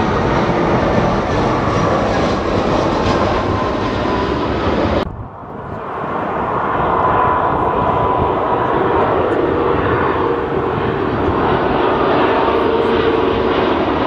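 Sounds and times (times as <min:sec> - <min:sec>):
approaching jet engine whine: 0:00.0 - 0:14.0
jet airliner engine noise: 0:00.0 - 0:14.0.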